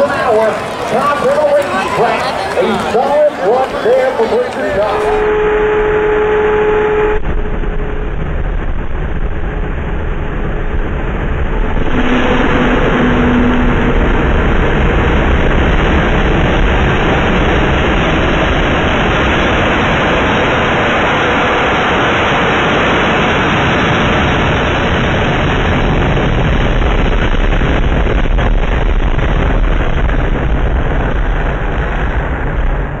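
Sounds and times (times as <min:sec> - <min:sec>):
jet engine roaring: 0:00.0 - 0:33.0.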